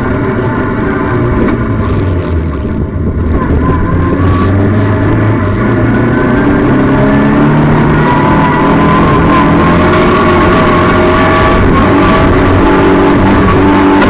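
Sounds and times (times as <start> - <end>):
other race cars: 0.0 - 14.0
race car engine running: 0.0 - 14.0.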